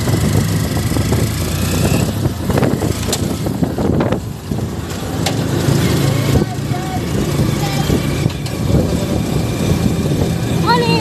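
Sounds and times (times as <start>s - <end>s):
motorcycle engine running: 0.0s - 11.0s
sidecar rattling: 0.0s - 11.0s.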